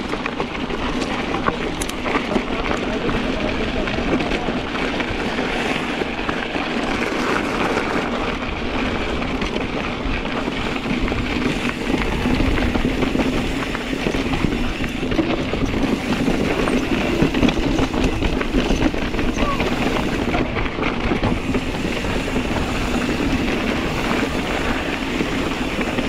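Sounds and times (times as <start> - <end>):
bike clicking and rattling: 0.0 - 26.0
bike tyres on gravel and rock: 0.0 - 26.0.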